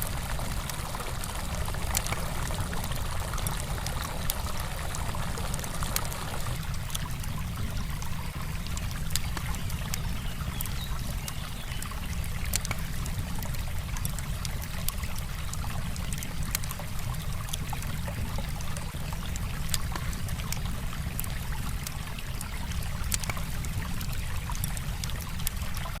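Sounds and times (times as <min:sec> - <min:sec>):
campfire crackling and popping: 0:00.0 - 0:26.0
river flowing over stones: 0:00.0 - 0:26.0.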